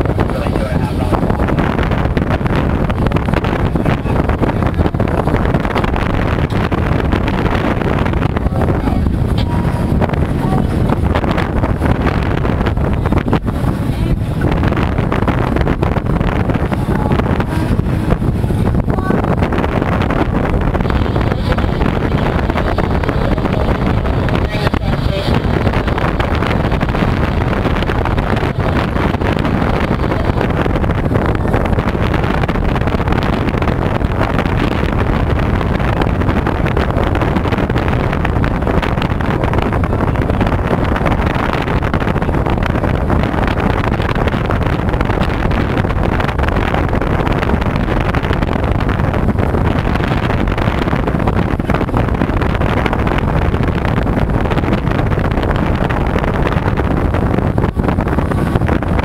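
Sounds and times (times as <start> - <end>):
outboard motor running: 0.0 - 59.0
water rushing past hull: 0.0 - 59.0
wind buffeting microphone: 0.0 - 59.0.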